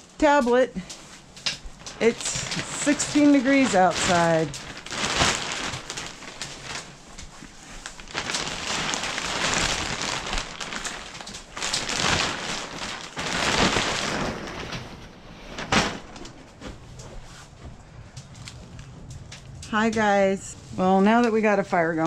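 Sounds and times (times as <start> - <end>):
plastic sheeting rustling: 0.0 - 17.8
sharp plastic crackle: 0.1 - 20.1.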